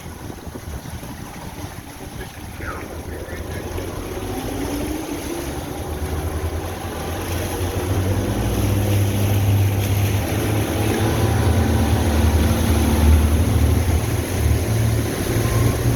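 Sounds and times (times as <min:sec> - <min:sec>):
boat motor rumbling: 0:00.0 - 0:15.9.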